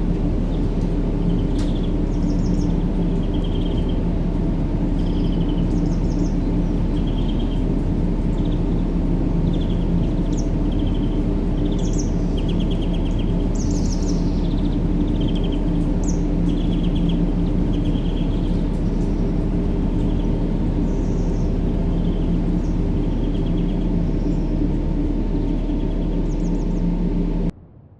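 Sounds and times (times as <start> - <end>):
small birds chirping: 0.0 - 27.3
faint hum: 0.0 - 27.6
steady low rumbling noise: 0.0 - 27.9.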